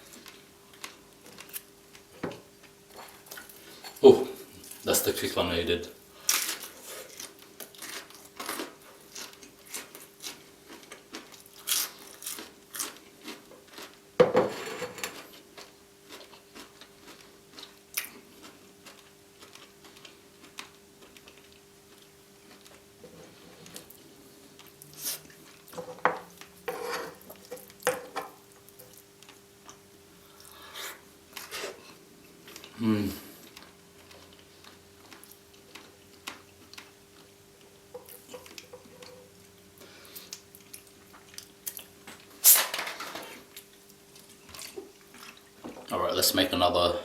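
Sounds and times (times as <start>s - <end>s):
chewing and crunching: 0.0s - 4.0s, 6.2s - 14.0s, 15.2s - 27.8s, 28.5s - 42.4s, 43.3s - 45.8s
faint steady hum: 0.0s - 47.0s.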